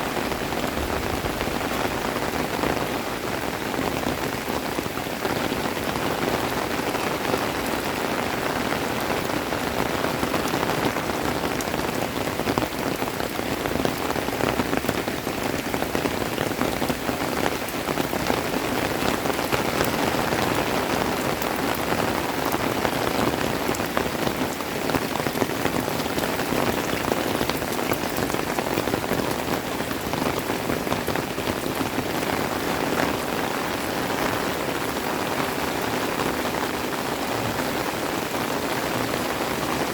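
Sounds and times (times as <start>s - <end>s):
raindrops striking close by: 0.0s - 39.9s
steady rain falling: 0.0s - 39.9s.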